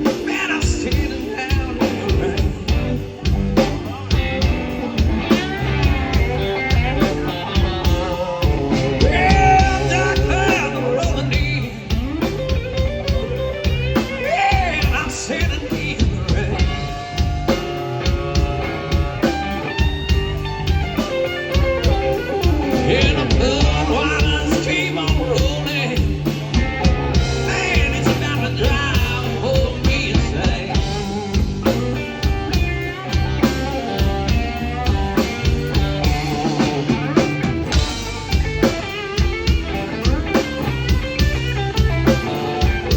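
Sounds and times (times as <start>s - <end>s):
bass and drum beat: 0.0s - 42.9s
electric guitar lines: 0.0s - 42.9s.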